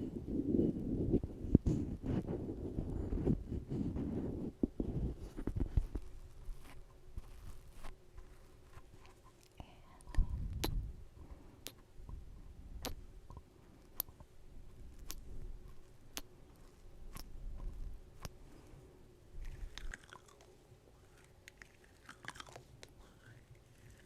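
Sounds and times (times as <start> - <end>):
soft low rumble: 0.0 - 24.0
crunchy chewing: 0.4 - 24.0.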